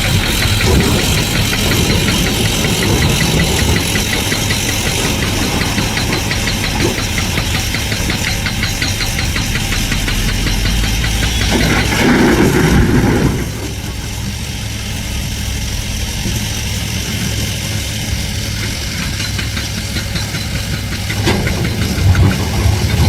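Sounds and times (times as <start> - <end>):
heavy machinery diesel engine running: 0.0 - 23.0.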